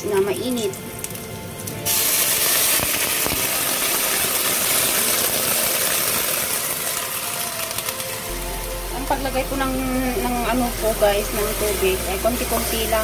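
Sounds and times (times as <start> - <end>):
water sizzling in hot pan: 0.0 - 13.0.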